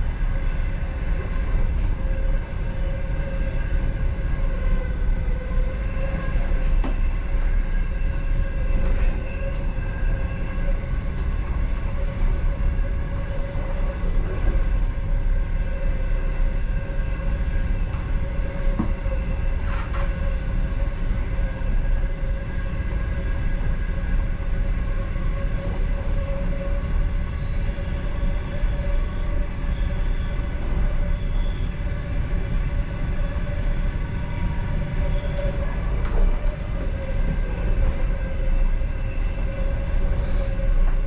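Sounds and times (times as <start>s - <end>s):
train wheels rumbling on track: 0.0s - 41.0s.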